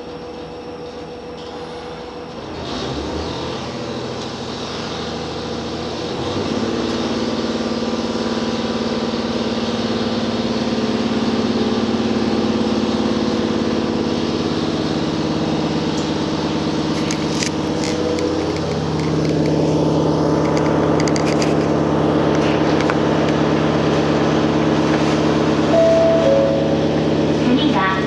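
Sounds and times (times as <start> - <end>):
railcar engine humming: 0.0 - 28.0.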